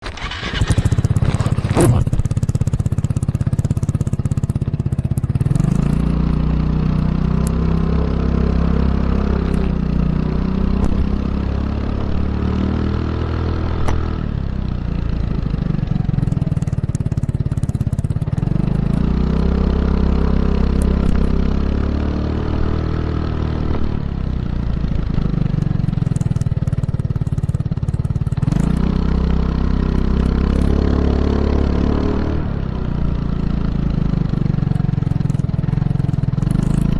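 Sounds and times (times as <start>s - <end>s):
scooter engine revving: 0.0s - 36.9s.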